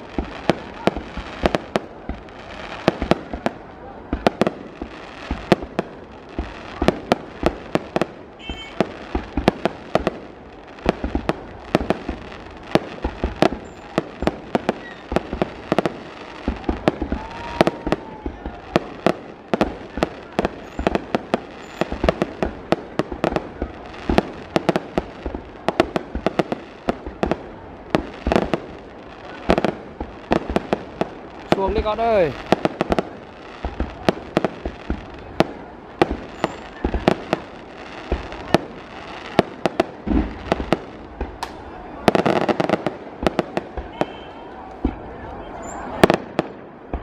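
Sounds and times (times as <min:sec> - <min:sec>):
fireworks bangs and pops: 0:00.0 - 0:47.0
fireworks crackle: 0:00.0 - 0:47.0.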